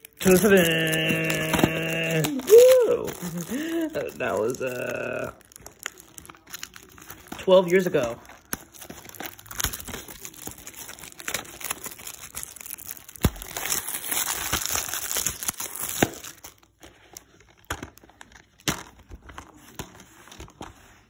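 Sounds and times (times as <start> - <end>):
plastic wrap crinkling and tearing: 0.0 - 21.0.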